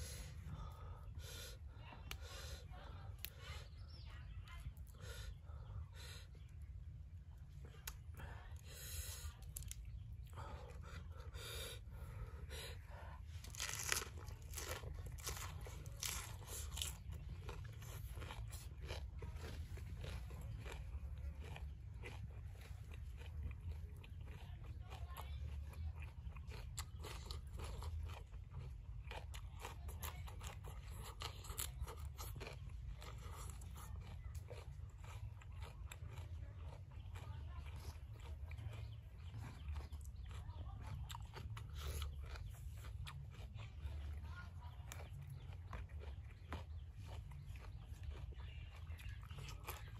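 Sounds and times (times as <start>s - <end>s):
chewing and crunching prawns: 0.0s - 49.9s
steady low rumble: 0.0s - 49.9s.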